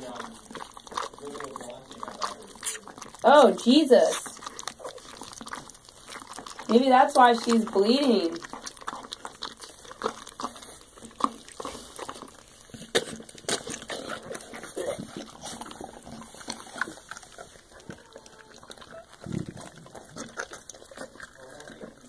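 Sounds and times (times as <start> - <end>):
dog licking wetly: 0.0 - 22.0.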